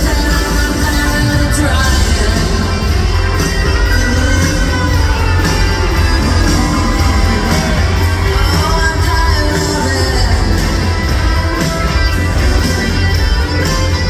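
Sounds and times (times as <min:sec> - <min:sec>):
woman singing: 0:00.0 - 0:12.6
electric guitars: 0:00.0 - 0:14.0
heavy bass: 0:00.0 - 0:14.0
drum beat: 0:01.4 - 0:14.0.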